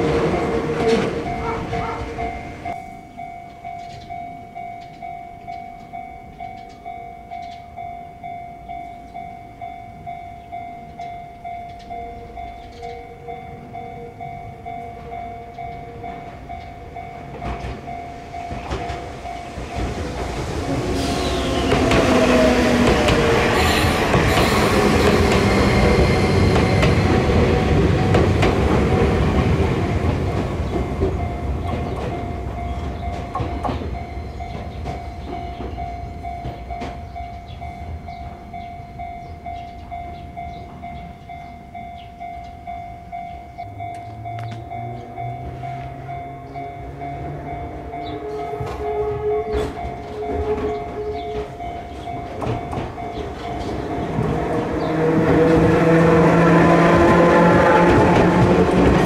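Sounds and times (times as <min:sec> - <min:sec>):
level crossing warning bell: 0:00.0 - 0:59.0
train running past: 0:00.0 - 0:59.0.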